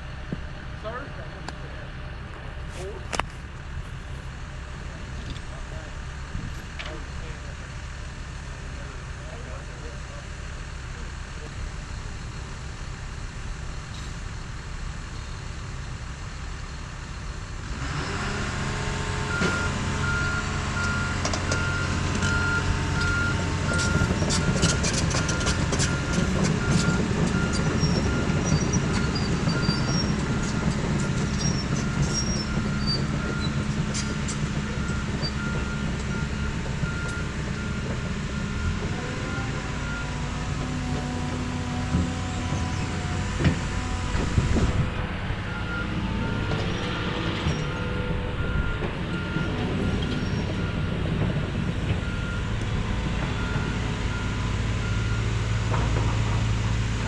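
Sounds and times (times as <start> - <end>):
heavy equipment engine running: 0.0 - 57.0.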